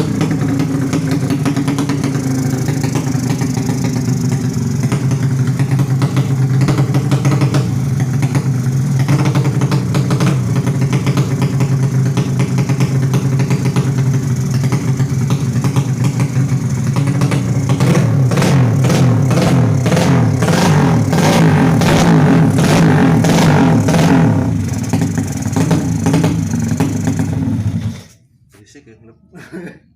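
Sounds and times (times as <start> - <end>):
motorcycle engine fast idle: 0.0 - 20.1, 23.3 - 28.1.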